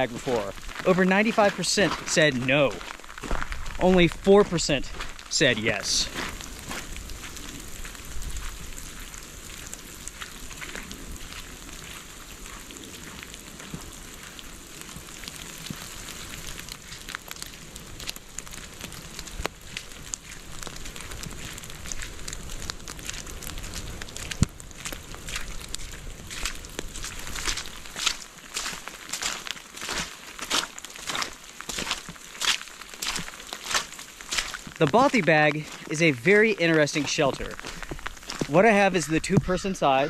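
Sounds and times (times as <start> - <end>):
rain on snow and leaves: 0.0 - 40.0
raindrops ticking: 0.0 - 40.0.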